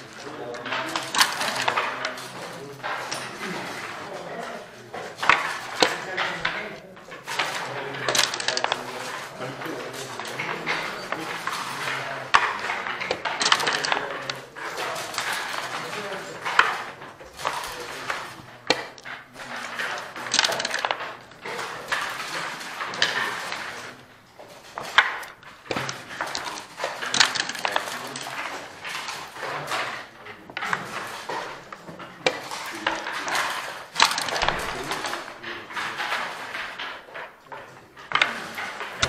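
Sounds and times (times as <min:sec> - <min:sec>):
dice and checkers clacking: 0:00.0 - 0:39.0.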